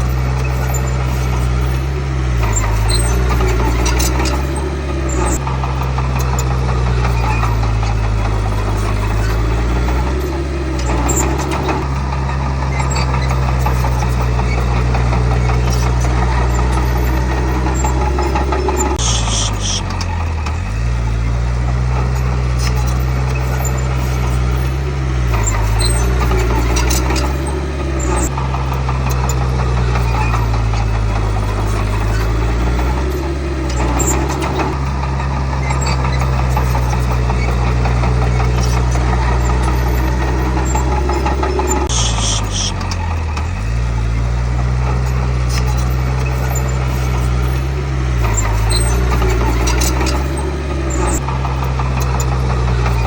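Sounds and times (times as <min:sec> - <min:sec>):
short high squeal: 0:00.0 - 0:05.4, 0:06.2 - 0:11.9, 0:12.7 - 0:20.2, 0:22.1 - 0:28.4, 0:29.1 - 0:34.9, 0:35.6 - 0:43.1, 0:45.1 - 0:53.0
bulldozer diesel engine running: 0:00.0 - 0:53.0.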